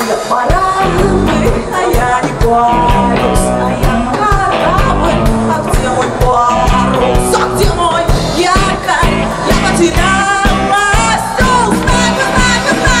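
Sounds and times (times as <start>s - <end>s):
drum kit beat: 0.0s - 13.0s
woman singing: 0.0s - 13.0s
electric bass: 0.5s - 13.0s.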